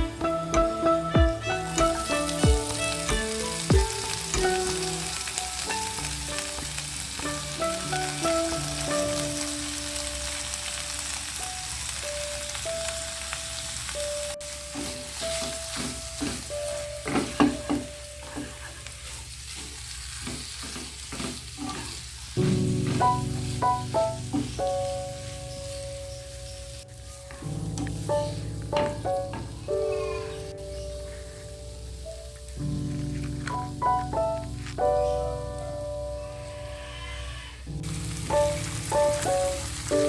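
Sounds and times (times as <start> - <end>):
food sizzling in hot oil: 0.0 - 40.0.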